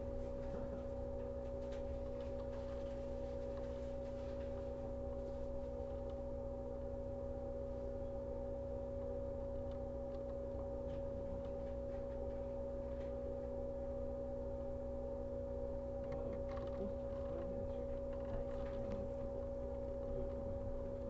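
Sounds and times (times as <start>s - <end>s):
electric train electrical hum: 0.0s - 21.0s.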